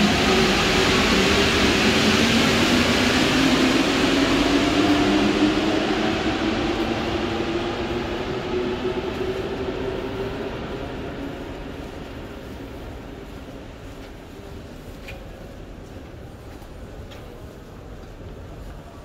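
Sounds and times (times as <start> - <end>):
train rumble with motor whine: 0.0 - 19.0.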